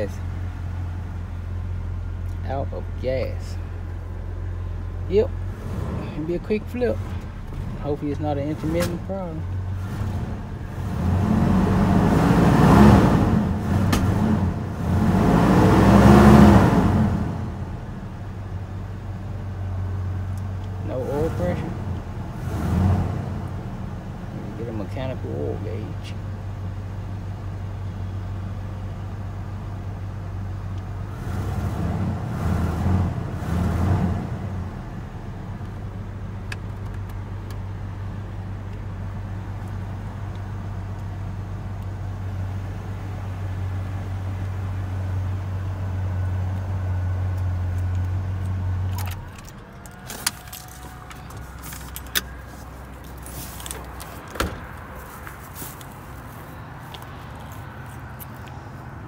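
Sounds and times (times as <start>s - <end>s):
pickup engine idling and revving: 0.0s - 59.0s.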